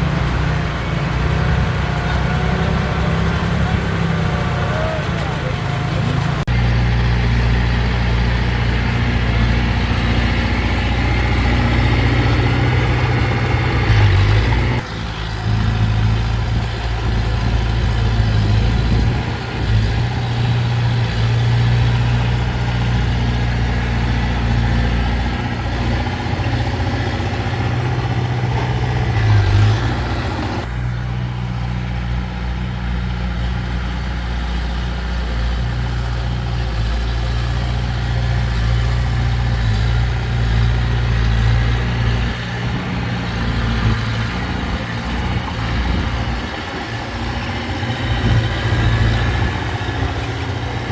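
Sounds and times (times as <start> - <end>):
heavy diesel engine droning: 0.0 - 50.9.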